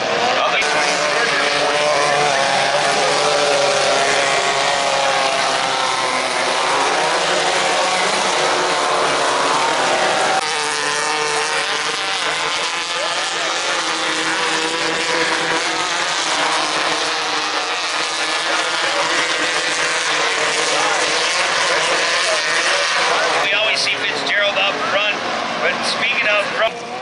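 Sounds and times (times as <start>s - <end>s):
race buggy engines revving: 0.0s - 27.0s.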